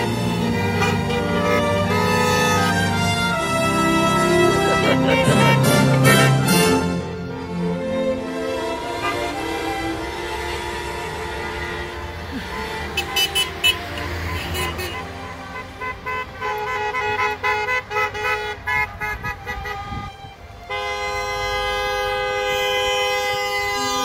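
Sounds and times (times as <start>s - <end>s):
car horns honking: 0.0s - 7.6s, 8.8s - 24.0s
traffic noise: 0.0s - 24.0s.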